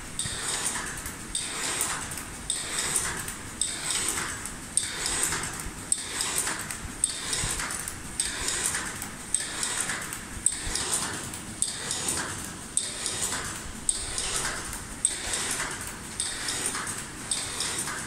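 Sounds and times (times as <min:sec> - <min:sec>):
machine clacking: 0:00.0 - 0:18.0
machine hissing: 0:00.2 - 0:18.0.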